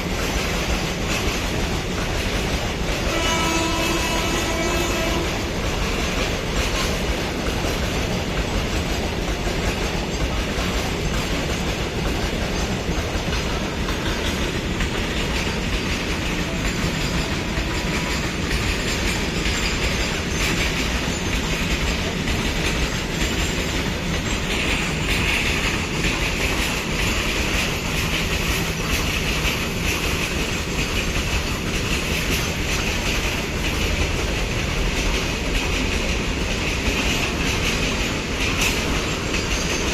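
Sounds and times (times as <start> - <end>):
goods train rumbling: 0.0 - 39.9
wheels clacking over rail joints: 0.0 - 39.9.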